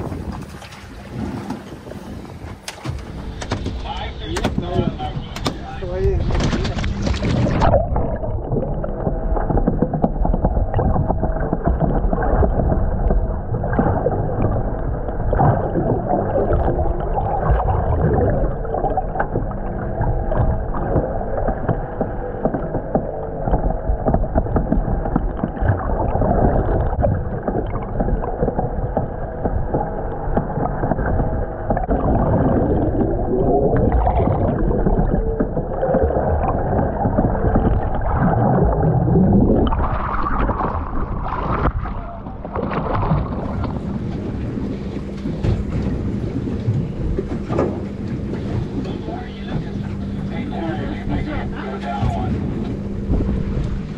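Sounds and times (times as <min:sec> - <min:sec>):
boat engine droning: 0:00.0 - 0:53.9
muffled underwater rushing and bubbling: 0:00.0 - 0:53.9
water splashing: 0:00.0 - 0:53.9
wind: 0:00.0 - 0:53.9.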